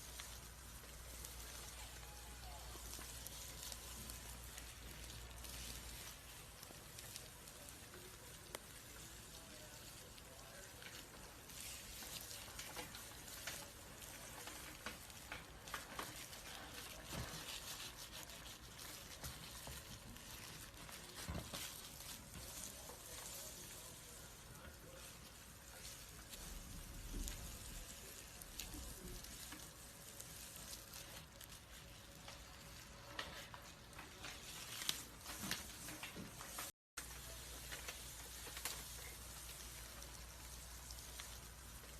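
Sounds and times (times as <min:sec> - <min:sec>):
papery crackle and rustle: 0:00.0 - 0:41.9.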